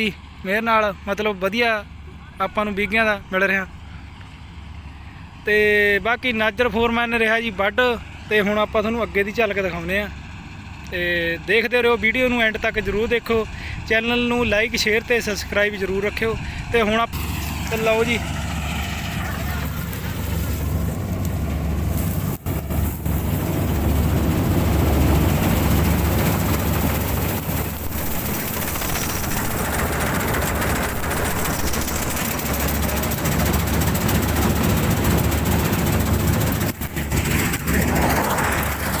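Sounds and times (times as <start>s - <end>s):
combine harvester running: 0.0s - 39.0s.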